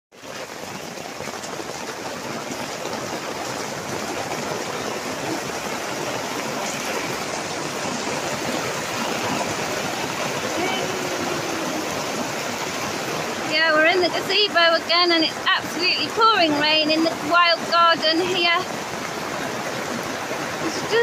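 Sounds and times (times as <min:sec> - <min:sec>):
heavy rain on fabric canopy: 0:00.1 - 0:21.0.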